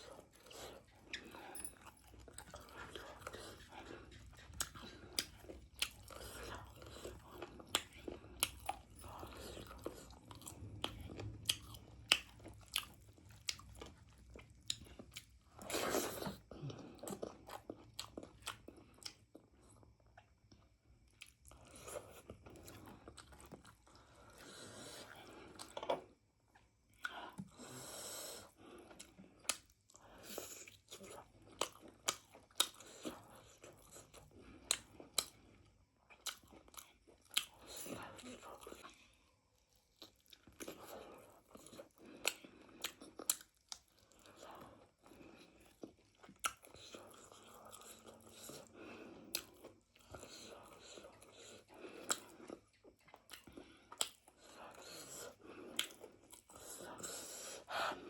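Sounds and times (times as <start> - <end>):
chewing with wet mouth clicks: 0.0 - 27.6, 28.8 - 39.0, 39.6 - 57.5.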